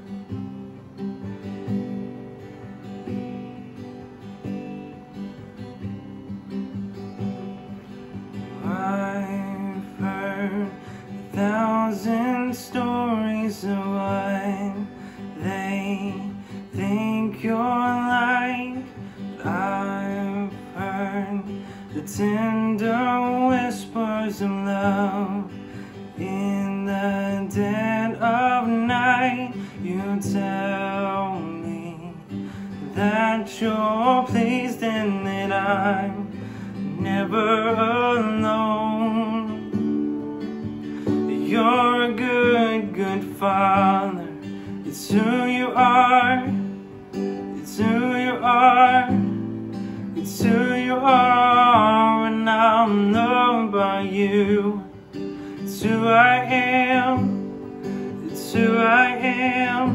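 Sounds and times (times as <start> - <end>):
acoustic guitar strumming: 0.0 - 59.9
person singing with vibrato: 8.6 - 59.9.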